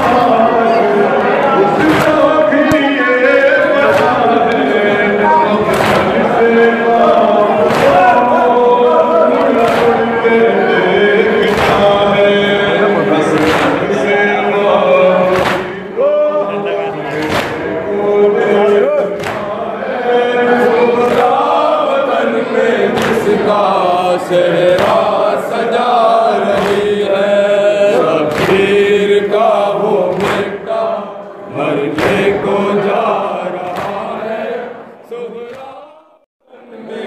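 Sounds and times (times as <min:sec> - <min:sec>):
men chanting in unison: 0:00.0 - 0:37.0.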